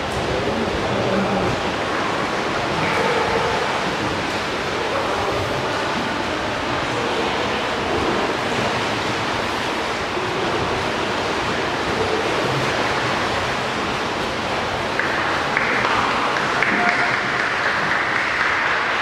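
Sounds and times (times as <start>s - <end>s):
pool water washing: 0.0s - 19.0s.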